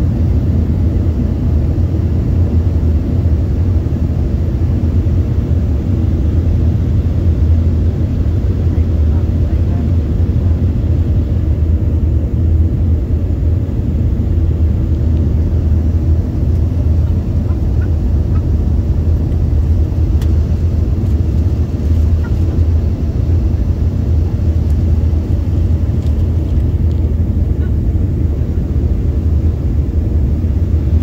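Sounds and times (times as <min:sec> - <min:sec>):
jet cabin engine rumble: 0:00.0 - 0:31.0.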